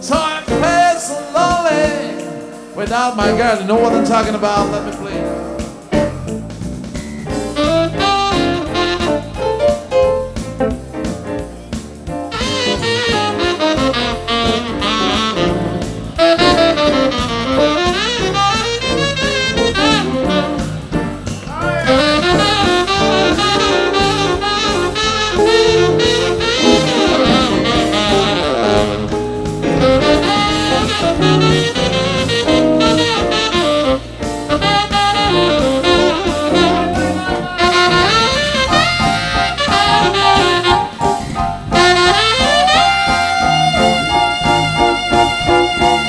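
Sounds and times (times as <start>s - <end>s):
band accompaniment with steady beat: 0.0s - 46.0s
saxophone playing jazzy melody: 0.0s - 46.0s.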